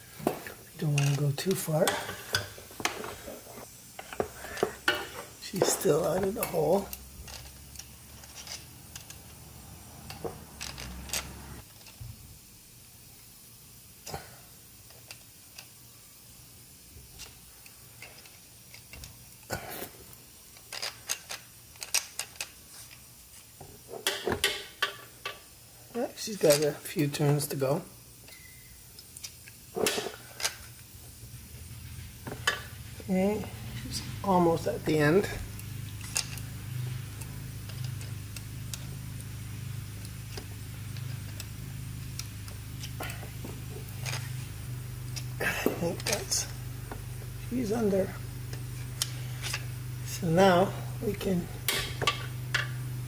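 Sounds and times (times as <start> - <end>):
steady low hum: 0.0 - 13.1, 21.3 - 53.0.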